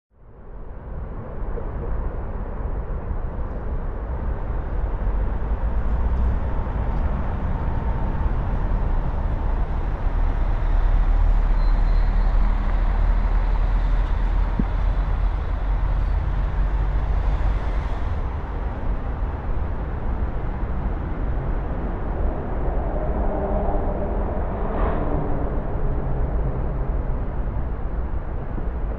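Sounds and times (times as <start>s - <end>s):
distant traffic rumble: 0.4s - 28.9s.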